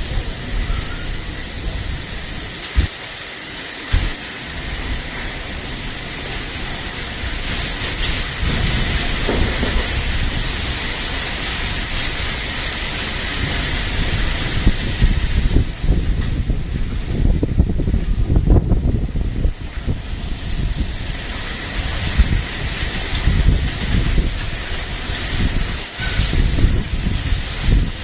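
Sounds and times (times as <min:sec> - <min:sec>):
heavy rain pouring: 0:00.0 - 0:28.0
wind rumble on microphone: 0:00.0 - 0:28.0.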